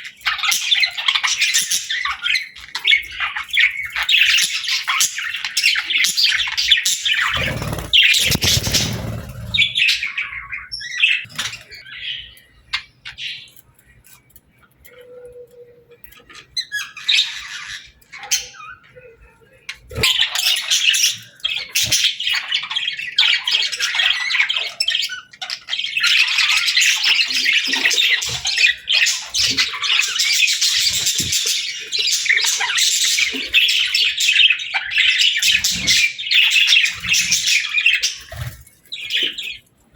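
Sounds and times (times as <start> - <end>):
budgerigars chattering and chirping: 0.0 - 15.0, 15.9 - 39.9.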